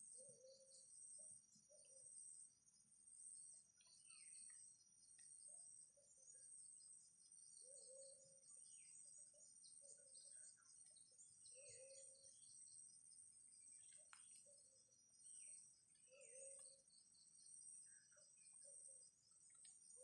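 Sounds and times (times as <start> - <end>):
small birds chirping: 3.3 - 20.0.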